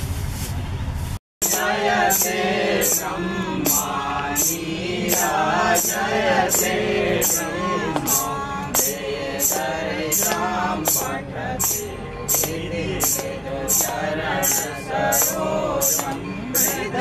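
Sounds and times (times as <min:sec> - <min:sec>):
jangling metal percussion: 0:01.4 - 0:16.8
men and women singing a hymn: 0:01.4 - 0:17.0.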